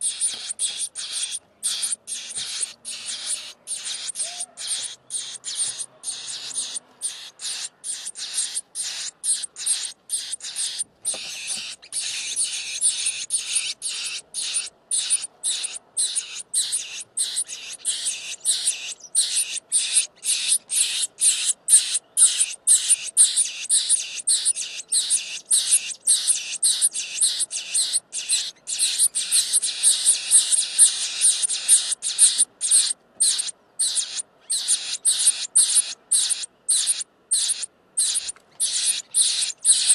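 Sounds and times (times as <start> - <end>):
nestlings screaming calls: 0.0 - 39.9.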